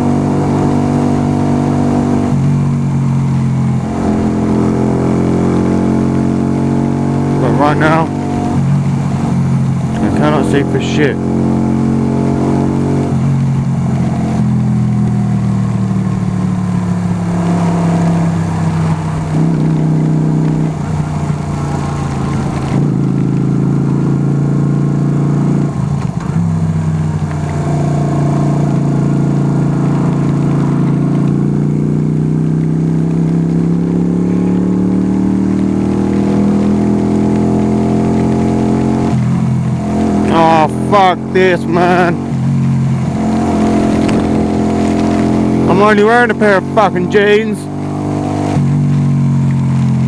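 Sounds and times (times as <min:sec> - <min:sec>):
motorcycle engine: 0:00.0 - 0:50.0.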